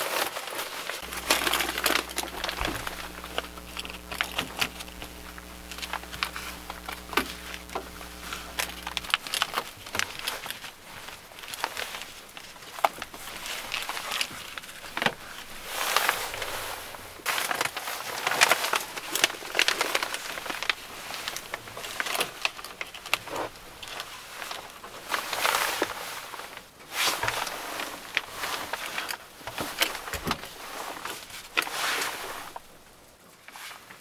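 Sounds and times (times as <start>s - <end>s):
foil shades rustling and crinkling: 0.0s - 34.0s.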